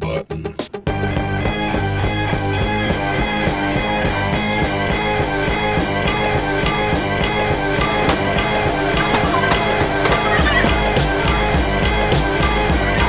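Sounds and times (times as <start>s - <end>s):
instrumental rock music: 0.7s - 13.0s.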